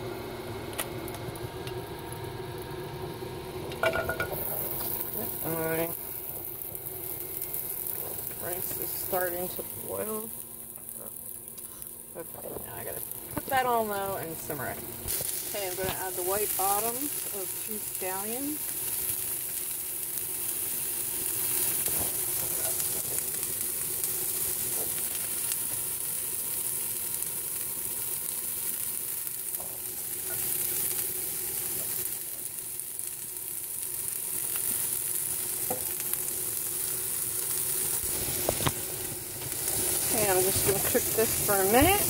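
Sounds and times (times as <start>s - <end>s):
faint steady hum: 0.0s - 42.0s
vegetables sizzling in oil: 0.0s - 42.0s.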